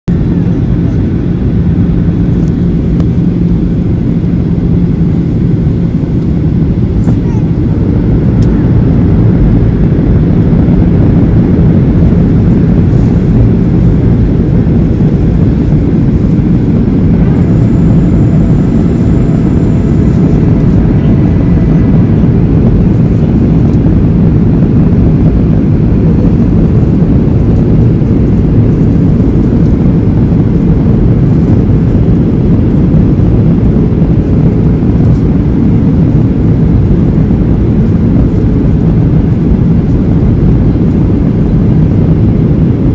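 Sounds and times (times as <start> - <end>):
jet engines roaring in cabin: 0.1 - 42.9
rushing air: 0.1 - 42.9.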